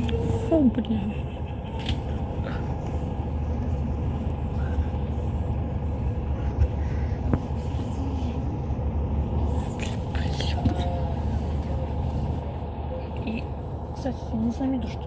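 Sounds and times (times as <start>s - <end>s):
coach engine rumble inside cabin: 0.0s - 15.0s.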